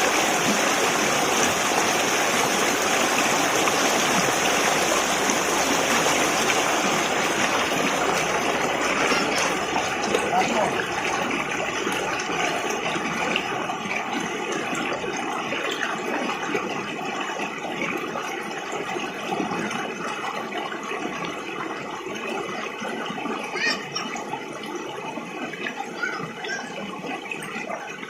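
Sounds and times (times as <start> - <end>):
river flowing over rocks: 0.0 - 25.8.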